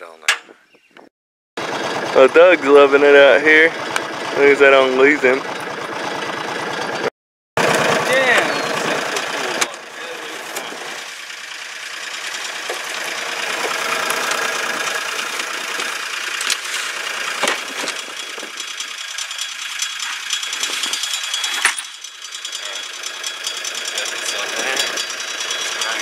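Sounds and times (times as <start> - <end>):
tractor diesel engine clattering: 1.6 - 26.0.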